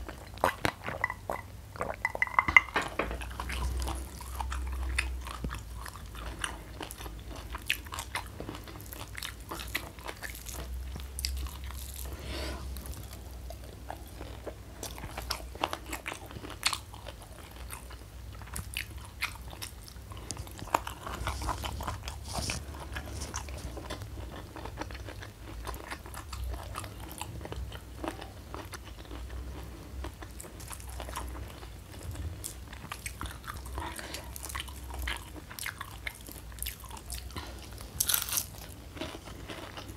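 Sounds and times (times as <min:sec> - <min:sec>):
chewing crunchy fried food: 0:00.0 - 0:39.9.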